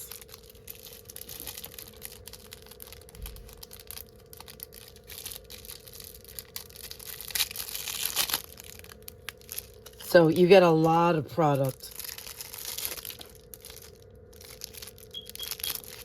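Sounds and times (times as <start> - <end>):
packaging crinkling and rustling: 0.0 - 10.5, 11.6 - 16.0.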